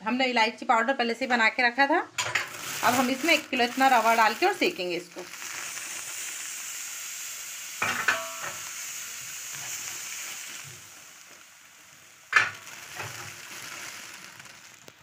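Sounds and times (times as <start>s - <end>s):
hot fat sizzling: 2.2s - 15.0s.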